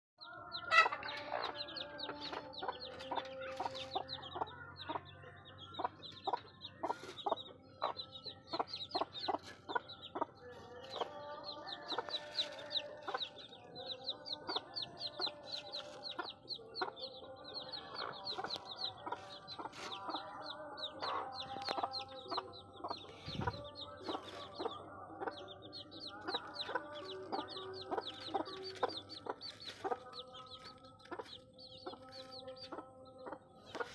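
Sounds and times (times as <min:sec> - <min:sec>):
chicks peeping: 0:00.2 - 0:33.9
hen clucking: 0:00.6 - 0:33.9.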